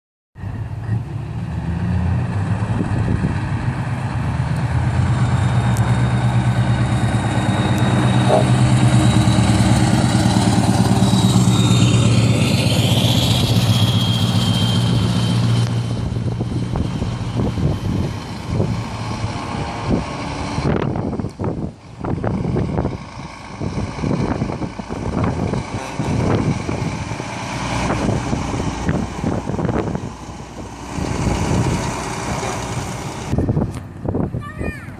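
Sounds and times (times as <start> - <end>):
diesel truck driving past: 0.4 - 34.9.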